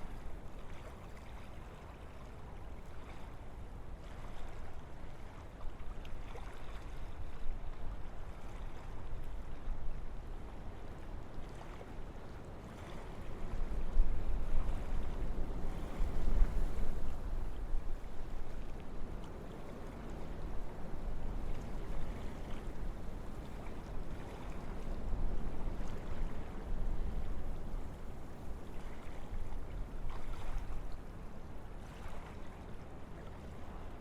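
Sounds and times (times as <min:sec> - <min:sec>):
wind through trees: 0:06.6 - 0:34.0.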